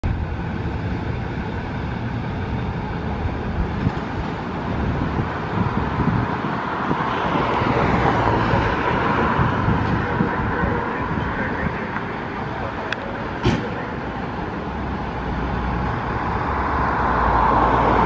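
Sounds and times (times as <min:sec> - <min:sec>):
diesel engine idling: 0:00.0 - 0:06.7, 0:07.7 - 0:17.1.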